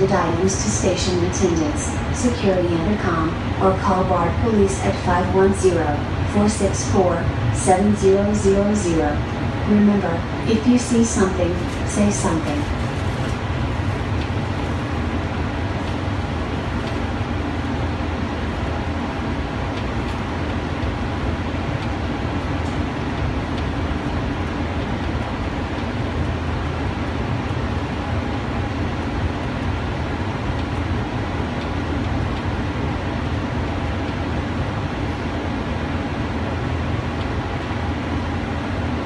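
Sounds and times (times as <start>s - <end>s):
constant low hum: 0.0s - 39.0s.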